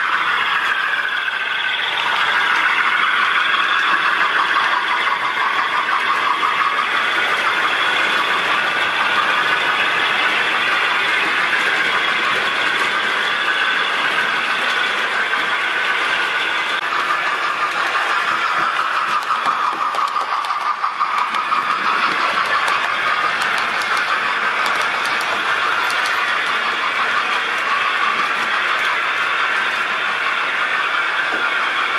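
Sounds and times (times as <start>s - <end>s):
model train motors whirring: 0.0s - 31.9s.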